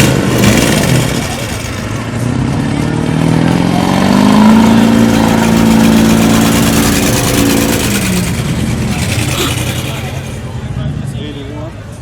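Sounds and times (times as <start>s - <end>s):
engine at high revs: 0.0s - 11.2s.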